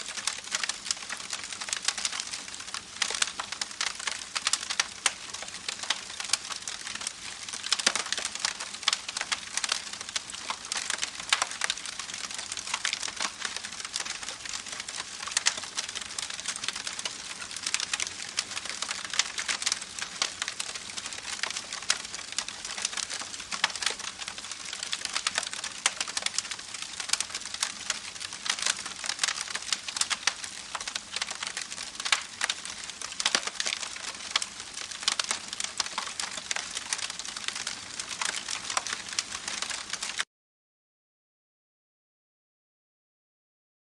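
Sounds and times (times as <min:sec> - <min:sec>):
campfire crackling and popping: 0:00.0 - 0:40.3.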